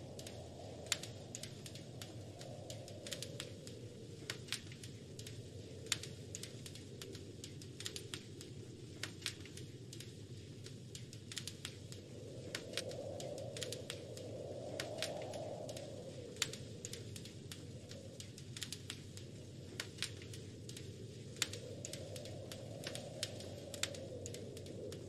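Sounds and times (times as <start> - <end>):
low steady wind: 0.0 - 25.0
wood fire crackling and popping: 0.0 - 25.0.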